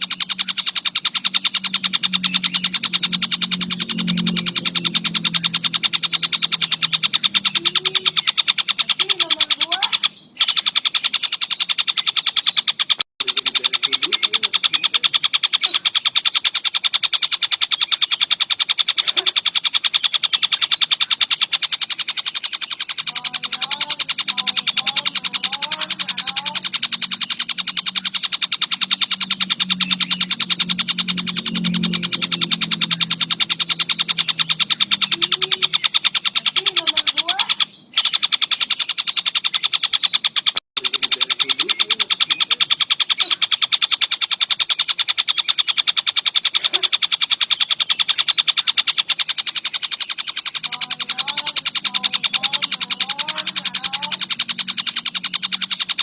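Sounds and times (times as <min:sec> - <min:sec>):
kingfisher chattering call: 0:00.0 - 0:56.0.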